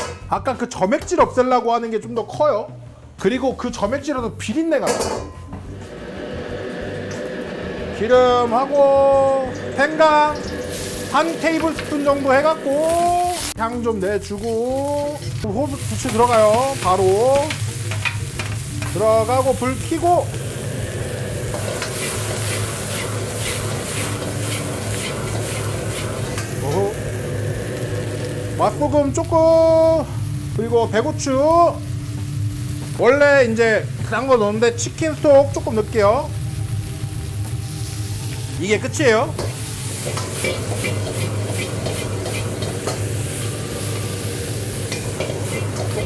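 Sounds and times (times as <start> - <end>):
gas burner roaring: 5.1 - 13.6, 15.0 - 46.0
food sizzling in a wok: 5.6 - 46.0.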